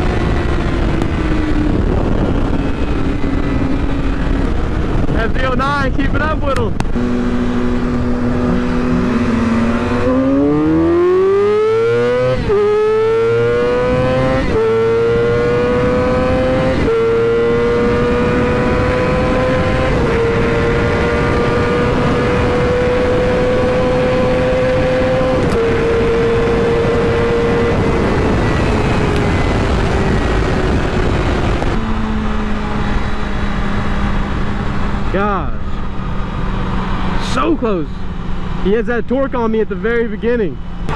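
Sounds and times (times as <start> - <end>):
motorcycle engine accelerating: 0.0 - 40.9
wind rush: 0.0 - 40.9.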